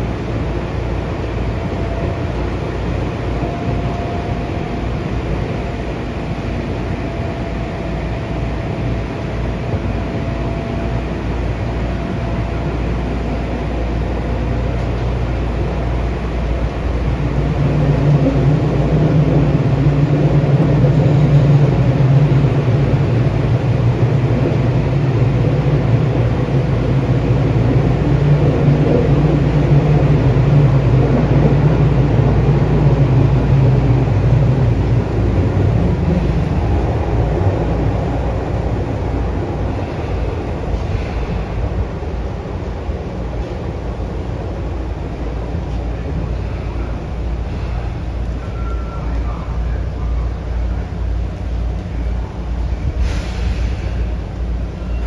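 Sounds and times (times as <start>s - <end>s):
subway car rumbling in tunnel: 0.0s - 55.0s.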